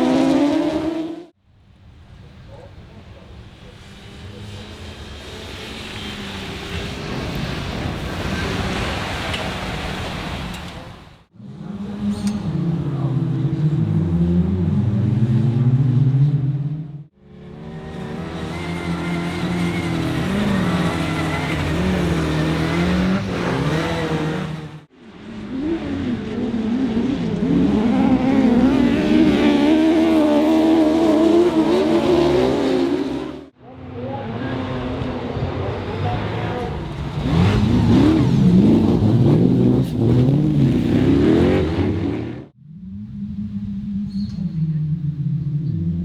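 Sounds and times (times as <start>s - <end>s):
racing car engines revving: 0.0s - 1.4s, 2.5s - 46.0s.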